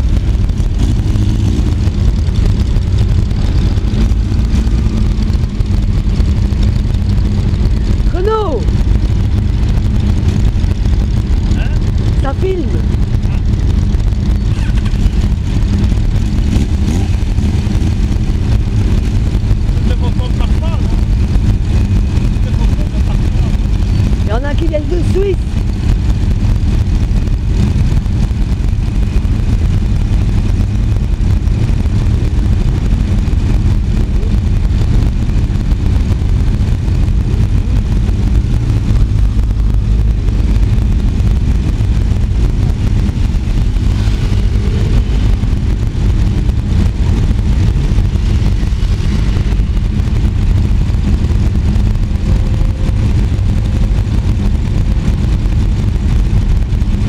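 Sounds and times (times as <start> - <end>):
motorcycles idling and pulling away: 0.0 - 57.0.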